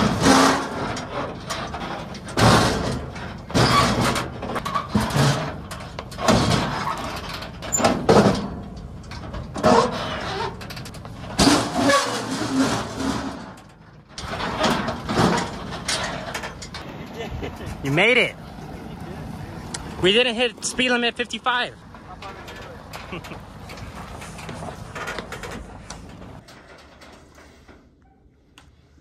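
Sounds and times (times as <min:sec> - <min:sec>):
truck and trailer lurching over rock: 0:00.0 - 0:28.0.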